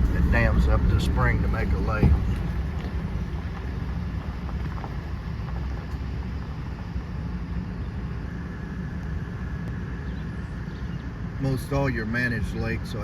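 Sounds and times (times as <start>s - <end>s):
vehicle engine rumble from cab: 0.0s - 13.0s.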